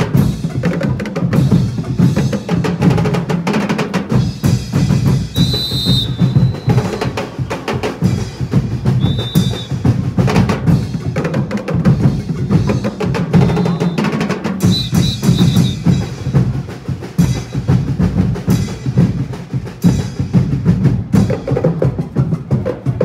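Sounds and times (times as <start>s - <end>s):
drum and percussion music: 0.0s - 23.0s.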